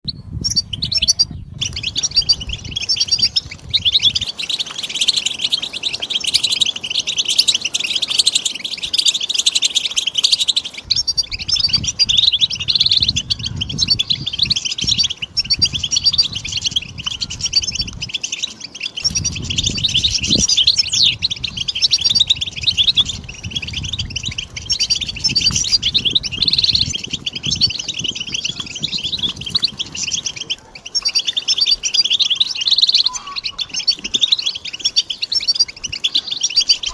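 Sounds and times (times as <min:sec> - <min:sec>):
bird twittering chirps and trills: 0:00.0 - 0:36.9.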